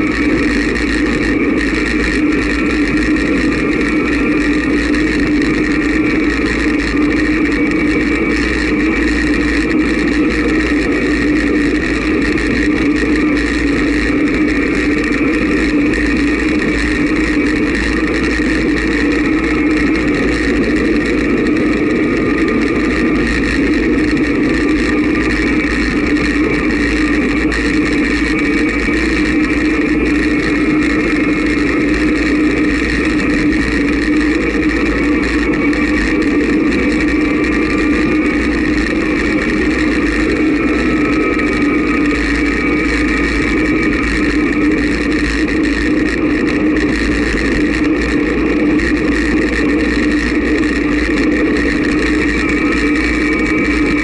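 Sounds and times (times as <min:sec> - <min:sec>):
wind rushing over camera: 0:00.0 - 0:54.0.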